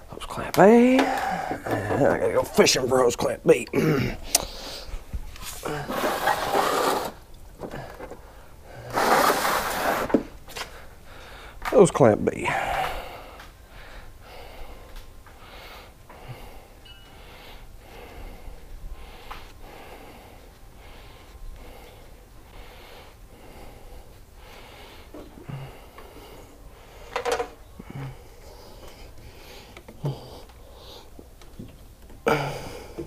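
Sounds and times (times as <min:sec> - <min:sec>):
person breathing heavily: 0:00.7 - 0:02.9, 0:03.8 - 0:06.4, 0:07.6 - 0:09.8, 0:10.6 - 0:11.7, 0:12.4 - 0:31.3, 0:32.2 - 0:33.0.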